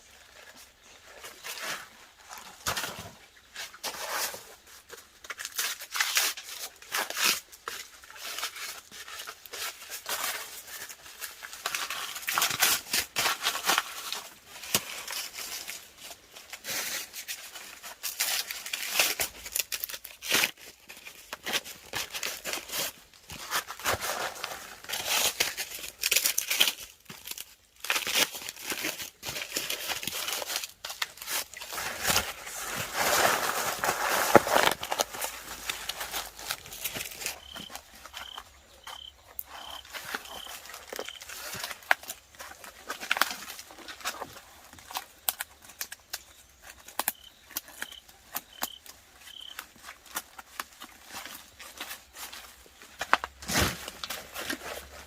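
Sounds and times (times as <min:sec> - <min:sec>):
crackling rustling and tearing: 0:00.0 - 0:55.0.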